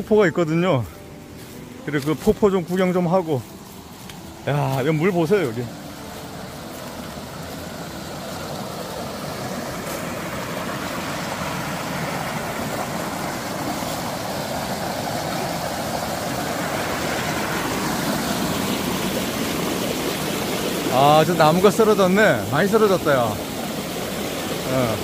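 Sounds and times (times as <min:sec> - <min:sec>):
stream rushing over rocks: 0:00.2 - 0:25.0.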